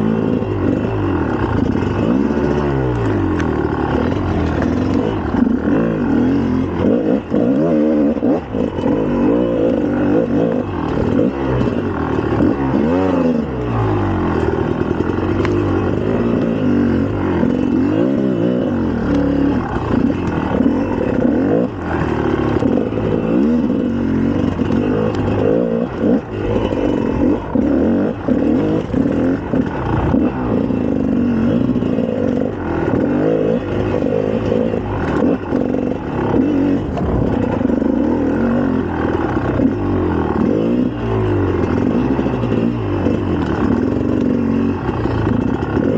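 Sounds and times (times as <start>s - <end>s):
two-stroke motorcycle engine revving: 0.0s - 45.9s.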